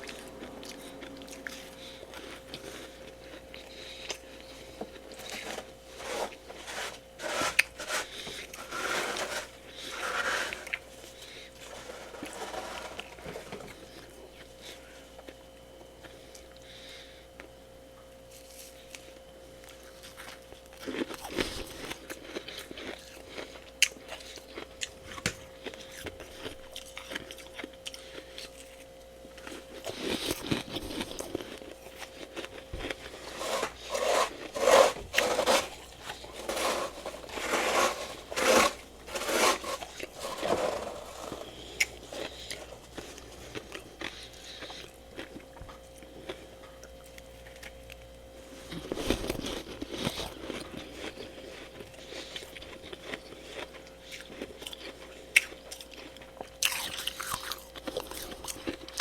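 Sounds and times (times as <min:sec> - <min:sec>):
crunching and chewing frost: 0:00.0 - 0:59.0
steady background hum: 0:00.0 - 0:59.0.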